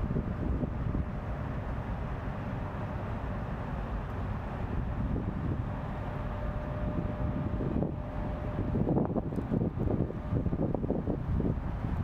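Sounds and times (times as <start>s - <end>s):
wind buffeting microphone: 0.0s - 2.8s, 3.9s - 12.0s.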